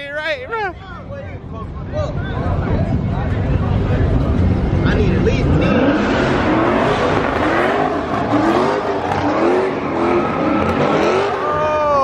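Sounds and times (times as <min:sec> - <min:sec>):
car engine revving: 0:01.4 - 0:12.0.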